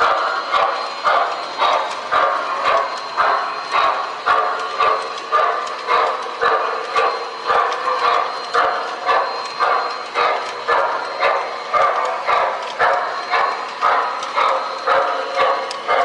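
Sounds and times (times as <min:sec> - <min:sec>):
model steam locomotive chuffing: 0:00.0 - 0:16.0.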